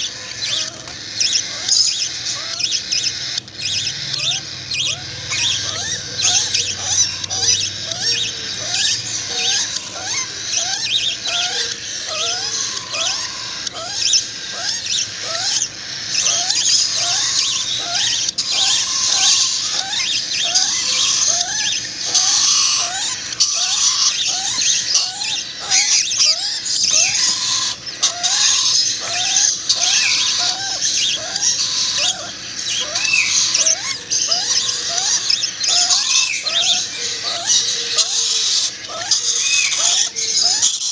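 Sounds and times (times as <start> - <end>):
nestling birds high chirping: 0.0 - 40.9.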